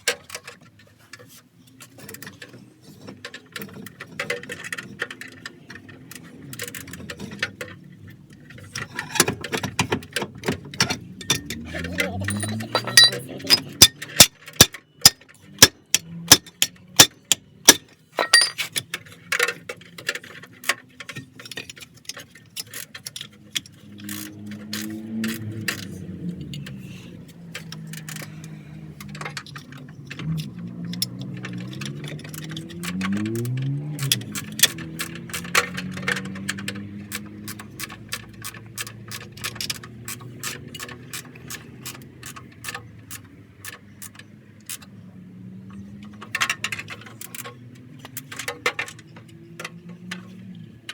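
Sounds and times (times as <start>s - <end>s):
metallic clicks and clinks: 8.5s - 26.8s, 27.5s - 50.9s.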